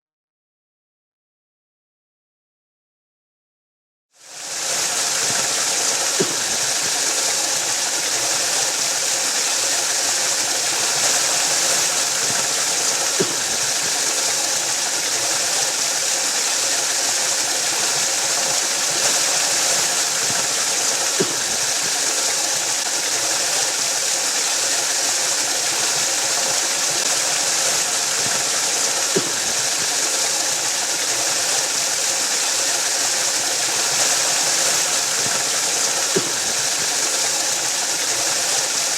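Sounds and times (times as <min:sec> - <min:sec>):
waterfall rushing: 0:04.2 - 0:38.9.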